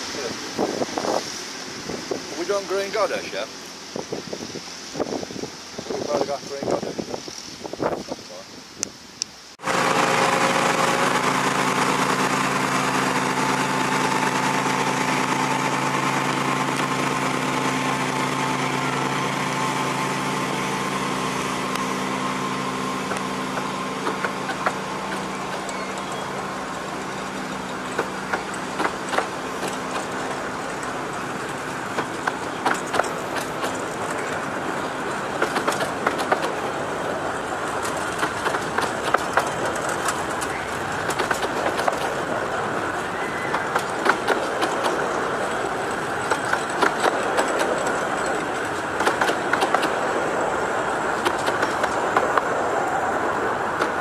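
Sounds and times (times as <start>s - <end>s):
diesel locomotive engine hum: 0.0s - 54.0s
train wheels clicking over rail joints: 9.6s - 54.0s.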